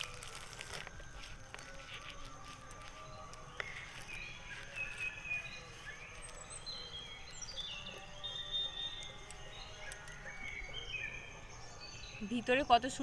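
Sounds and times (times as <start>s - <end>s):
birds chirping: 0.0s - 13.0s
faint outdoor background noise: 0.0s - 13.0s.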